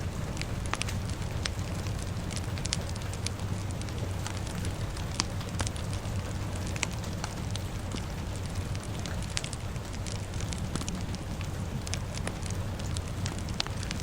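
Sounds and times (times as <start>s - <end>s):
low rumble: 0.0s - 14.0s
rain hissing: 0.0s - 14.0s
wood fire crackling: 0.0s - 14.0s.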